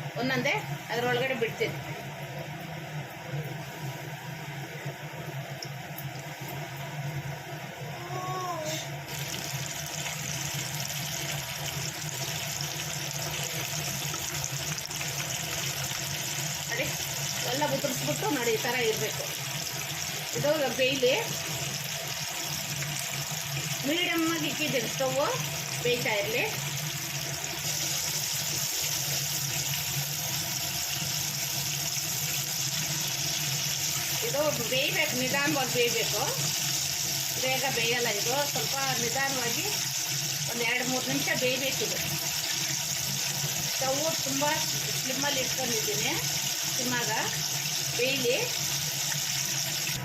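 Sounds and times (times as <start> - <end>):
chicken sizzling in hot oil: 0.0 - 50.0.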